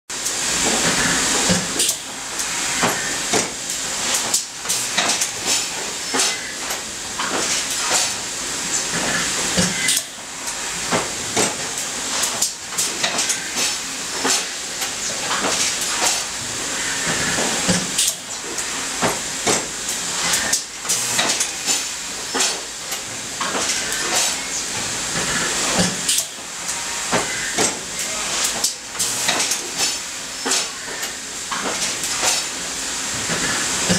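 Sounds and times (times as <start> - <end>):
machine clanks and knocks: 2.8 - 8.2, 8.8 - 10.1, 10.9 - 16.3, 17.1 - 26.4, 27.1 - 32.5, 33.2 - 33.9.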